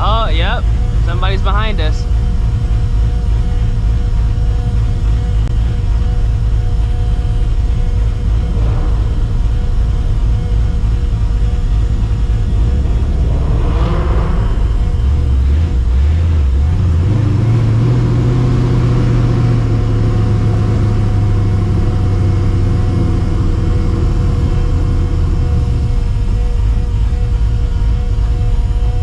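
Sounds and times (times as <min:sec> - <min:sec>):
car engine exhaust drone: 0:00.0 - 0:29.0.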